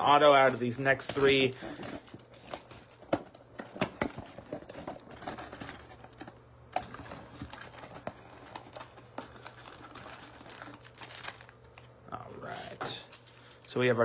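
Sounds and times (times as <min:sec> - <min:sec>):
rustling of foil packs: 0:00.0 - 0:14.0.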